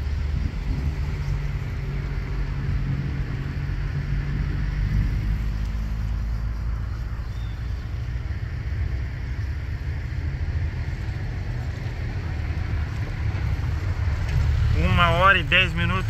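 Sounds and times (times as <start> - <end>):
propeller plane engines droning: 0.0 - 16.0.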